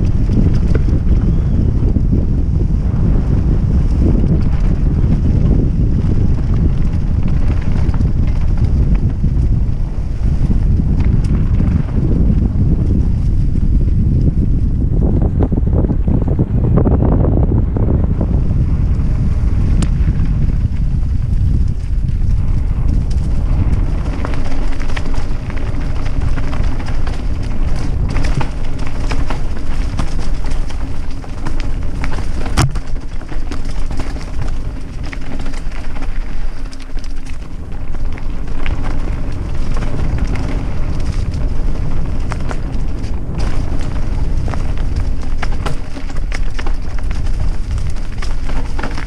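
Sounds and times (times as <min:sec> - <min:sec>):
bike rattling over bumps: 0:00.0 - 0:49.0
tyre rumble: 0:00.0 - 0:49.0
wind buffeting microphone: 0:00.0 - 0:49.0.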